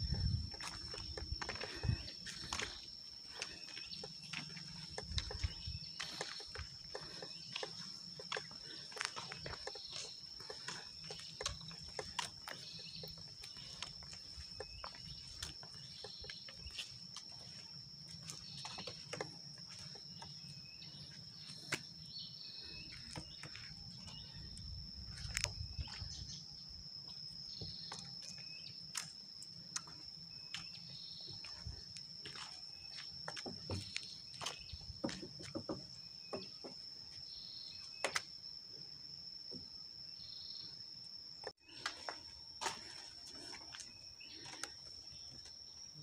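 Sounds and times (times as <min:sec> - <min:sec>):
high-pitched insect drone: 0:00.0 - 0:46.0
outdoor ambience: 0:00.0 - 0:46.0.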